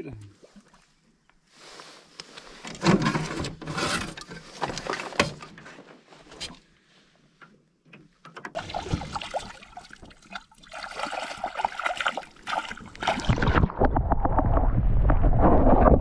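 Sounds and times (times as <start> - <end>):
water splashing and sloshing: 0.2 - 6.8, 8.2 - 16.0.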